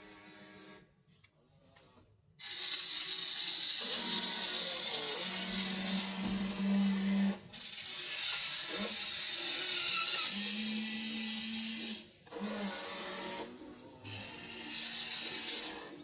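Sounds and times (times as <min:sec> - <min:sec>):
small electric motors whirring: 0:02.4 - 0:16.0.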